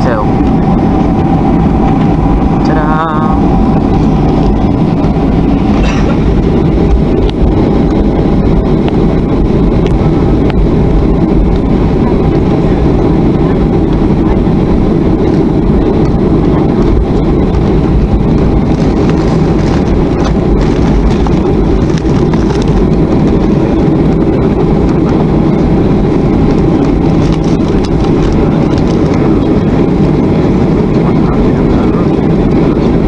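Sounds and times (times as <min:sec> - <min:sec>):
jet engine idling: 0:00.0 - 0:33.0.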